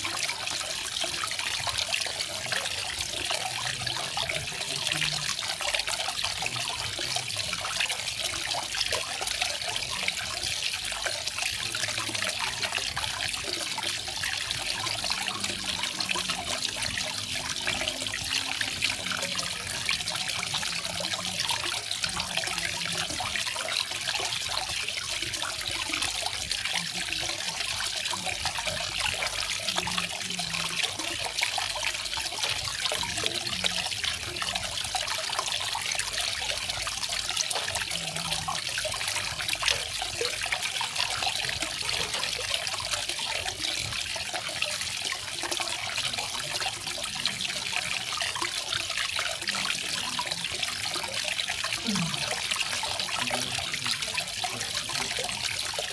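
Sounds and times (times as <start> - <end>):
waterfall splashing and trickling: 0.0 - 55.9.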